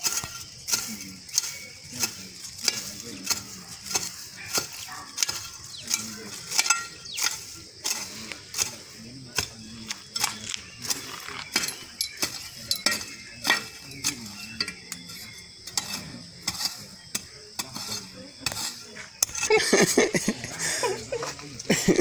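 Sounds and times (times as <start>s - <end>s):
hoe chopping and scraping soil: 0.0s - 22.0s.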